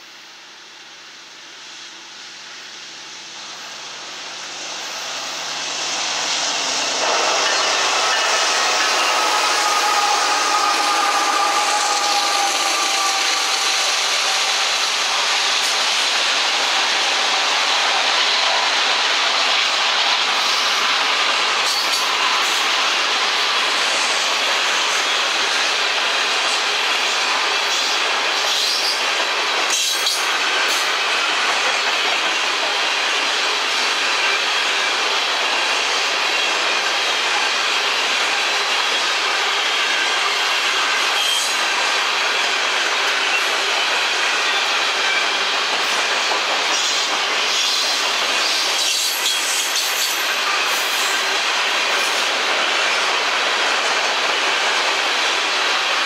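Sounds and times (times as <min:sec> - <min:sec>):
sharp clicks of train wheels: 0:02.8 - 0:56.0
freight train wheels rattling on rails: 0:03.0 - 0:56.0.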